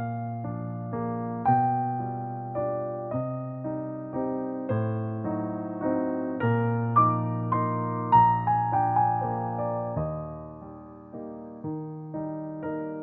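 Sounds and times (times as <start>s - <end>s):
electric piano chords: 0.0s - 13.0s.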